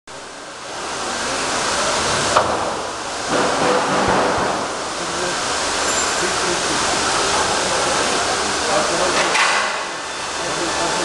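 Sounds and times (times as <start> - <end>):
factory machinery rushing: 0.3 - 11.0.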